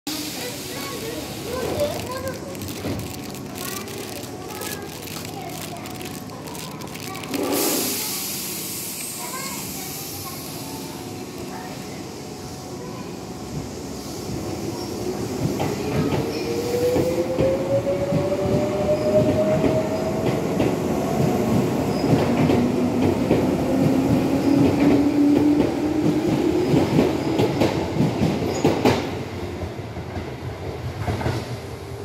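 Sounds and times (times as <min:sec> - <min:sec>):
rumble of train wheels: 0:00.1 - 0:32.0.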